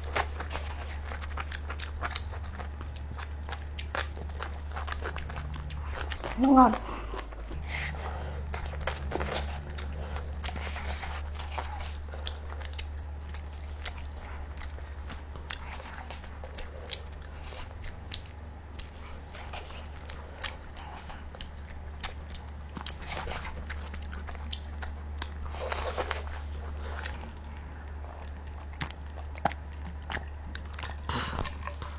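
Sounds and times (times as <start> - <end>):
close chewing and biting: 0.0 - 31.9
steady low hum: 0.0 - 31.9.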